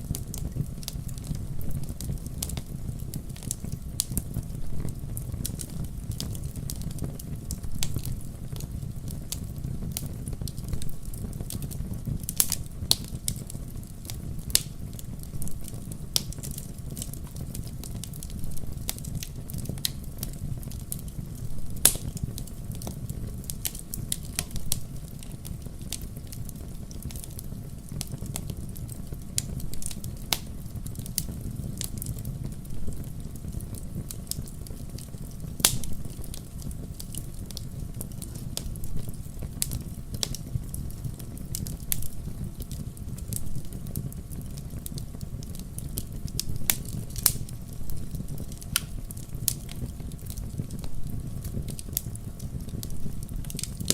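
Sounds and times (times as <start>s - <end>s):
low rumble of flames: 0.0s - 53.9s
wood logs crackling and popping: 0.0s - 53.9s.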